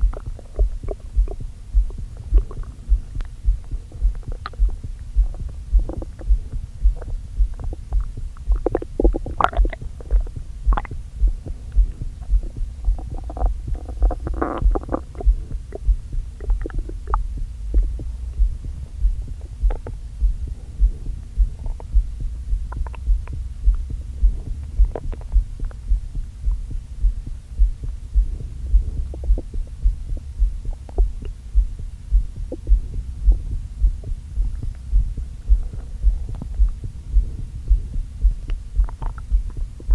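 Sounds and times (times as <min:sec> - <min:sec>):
low heartbeat thud: 0:00.0 - 0:39.9
stomach gurgling: 0:00.0 - 0:39.9.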